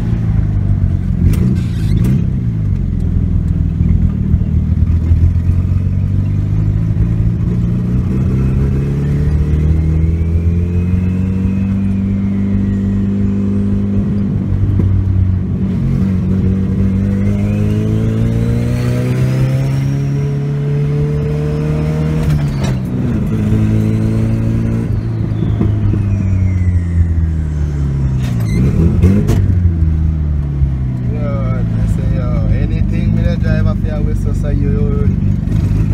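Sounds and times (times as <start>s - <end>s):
car engine revving: 0.0s - 35.9s
high turbo whine: 0.0s - 35.9s.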